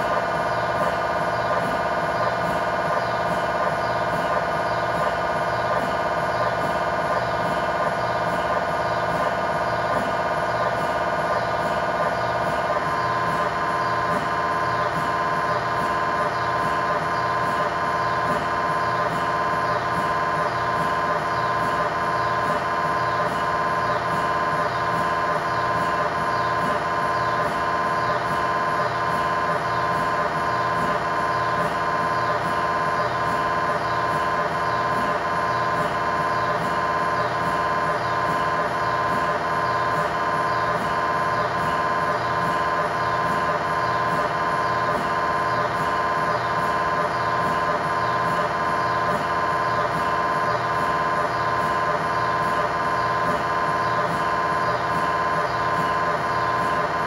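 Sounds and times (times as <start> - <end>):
mri scanner buzzing: 0.0 - 57.0.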